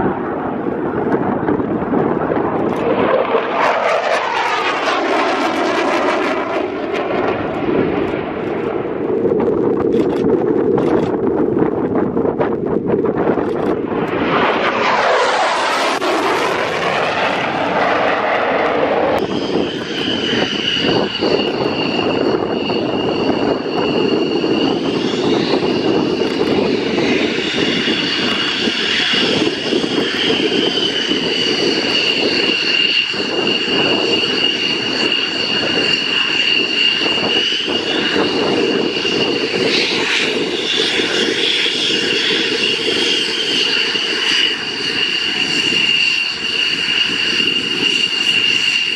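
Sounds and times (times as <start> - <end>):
aircraft engine roar: 0.0 - 48.9.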